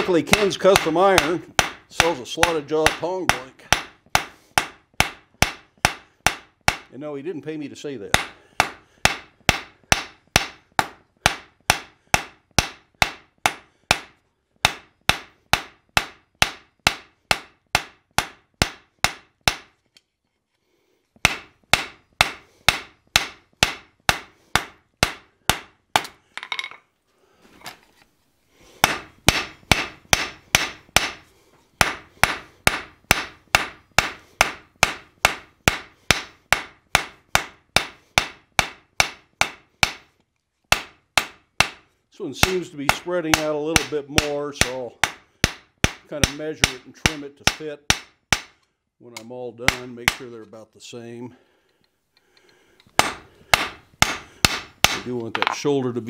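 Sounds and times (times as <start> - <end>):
hammer striking steel on anvil: 0.0 - 6.9, 8.1 - 19.8, 21.2 - 26.8, 28.8 - 40.1, 40.7 - 48.6, 49.2 - 50.3, 52.4 - 55.6.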